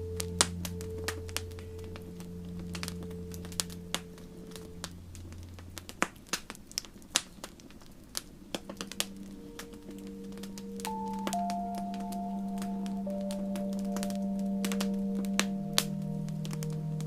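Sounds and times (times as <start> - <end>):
ambient music tones: 0.0 - 6.4, 8.2 - 17.0
wood fire crackling: 0.0 - 17.0.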